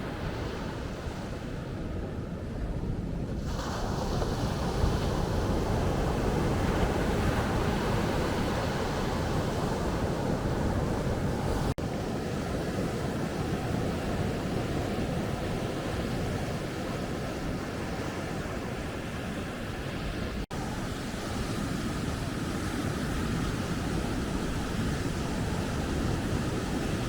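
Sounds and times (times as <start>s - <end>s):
wind rumbling on microphone: 0.0s - 27.0s
surf washing onto beach: 3.2s - 27.0s.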